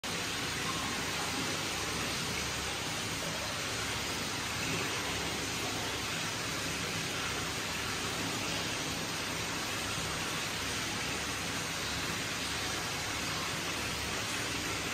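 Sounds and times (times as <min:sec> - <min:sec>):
water pouring into stone bath: 0:00.0 - 0:14.9.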